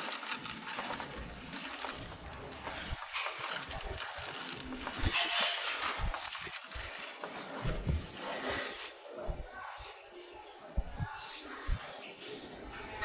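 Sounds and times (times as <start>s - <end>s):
scrubbing chain by hand: 0.0s - 13.0s.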